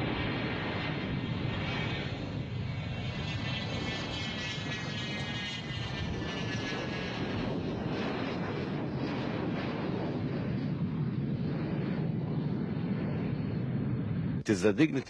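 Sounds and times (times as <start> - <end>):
aircraft engines running: 0.0 - 15.0.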